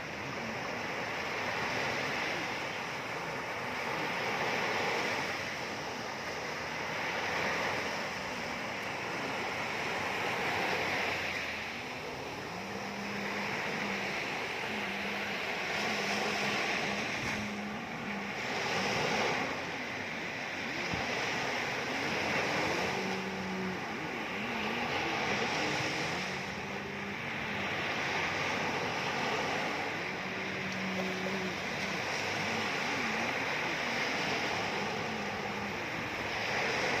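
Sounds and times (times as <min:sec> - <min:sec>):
ocean waves washing in: 0:00.0 - 0:37.0.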